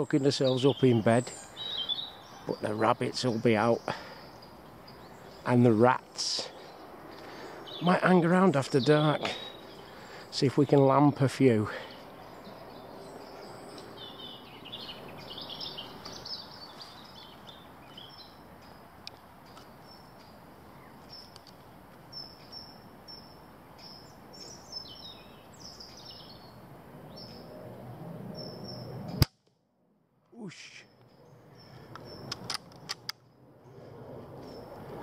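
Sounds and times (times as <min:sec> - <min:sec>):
small songbirds chirping: 0:00.0 - 0:27.6, 0:28.3 - 0:29.2, 0:30.4 - 0:33.0
faint outdoor background noise: 0:00.0 - 0:35.0.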